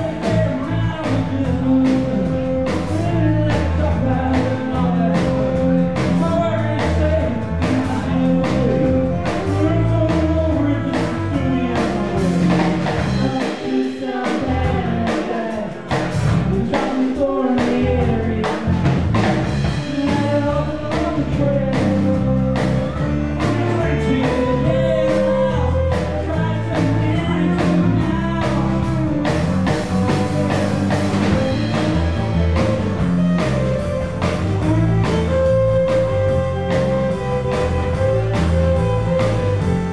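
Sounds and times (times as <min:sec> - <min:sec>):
bass: 0:00.0 - 0:39.9
drum kit: 0:00.0 - 0:39.9
man singing: 0:00.0 - 0:39.9.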